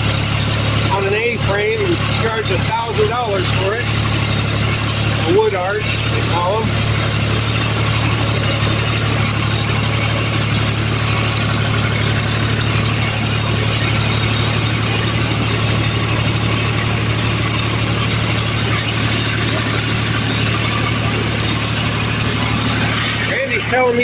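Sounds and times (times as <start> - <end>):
log dragging along trail: 0.0 - 24.0
tractor engine running: 0.0 - 24.0.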